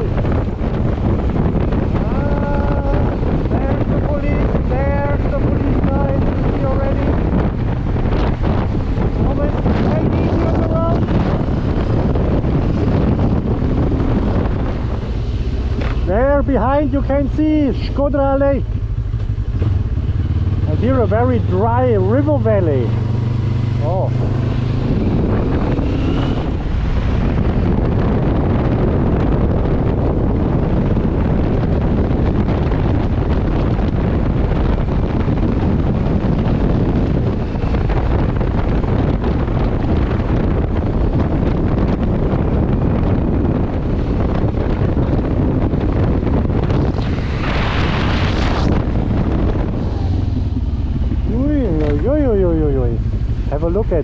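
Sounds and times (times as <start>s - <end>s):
motorcycle engine rumble: 0.0s - 54.0s
wind rushing over microphone: 0.0s - 54.0s.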